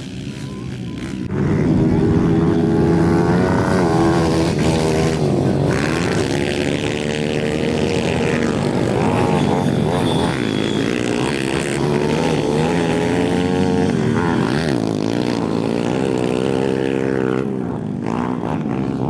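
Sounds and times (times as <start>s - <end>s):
pit bike engines revving: 0.0s - 19.0s.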